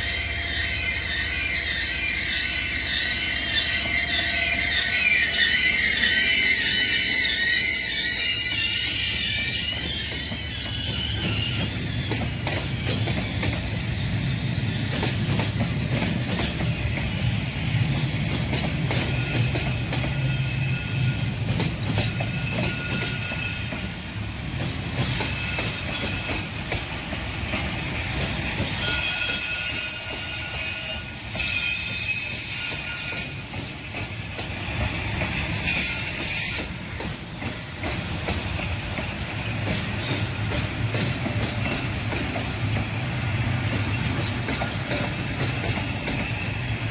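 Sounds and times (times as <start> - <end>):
train rolling past: 0.0 - 46.9
wheels squealing on rails: 0.0 - 46.9.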